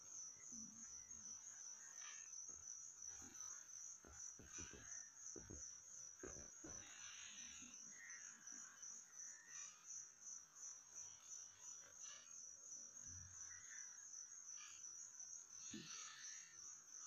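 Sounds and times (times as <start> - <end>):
insect chirring: 0.0 - 17.0
soft insect calls: 0.0 - 17.0.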